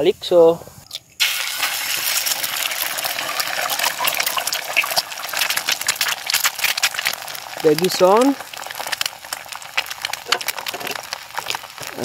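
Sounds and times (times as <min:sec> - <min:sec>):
egg sizzling in hot oil: 0:01.2 - 0:12.0.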